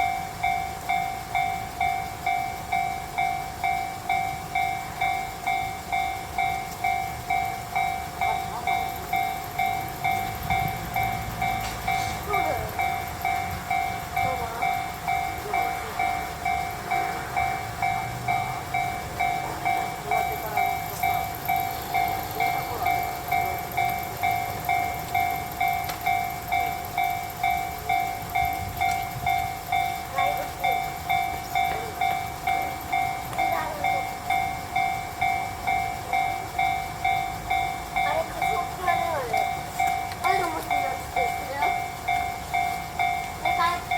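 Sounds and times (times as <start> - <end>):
level crossing bell: 0.0 - 43.9.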